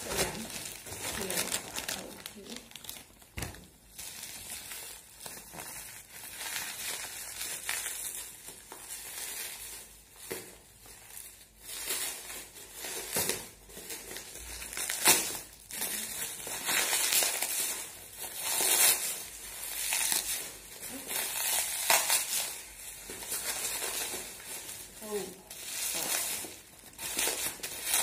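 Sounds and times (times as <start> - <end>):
bubble wrap crackles: 0.0 - 28.0
plastic packaging crinkling: 0.0 - 28.0.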